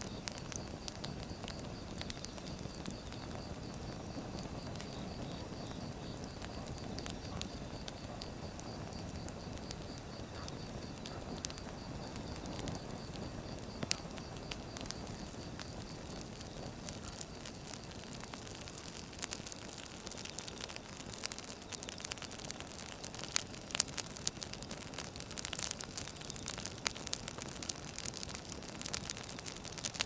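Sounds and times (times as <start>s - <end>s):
firewood crackling: 0.0s - 30.0s.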